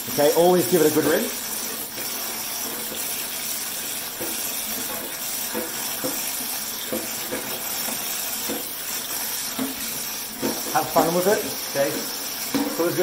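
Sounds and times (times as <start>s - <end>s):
tap water running: 0.0s - 13.0s.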